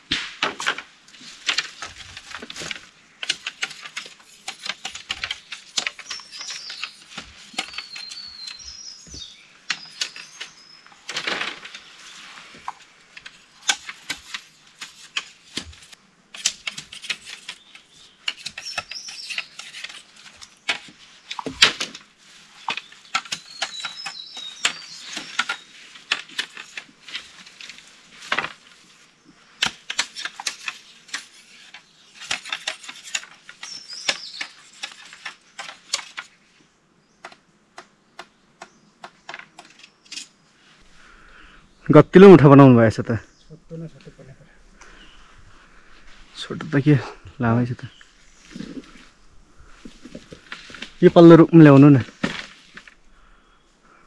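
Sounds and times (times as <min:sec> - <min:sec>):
leafy stalks rustling: 0:00.0 - 0:36.8, 0:39.2 - 0:54.0.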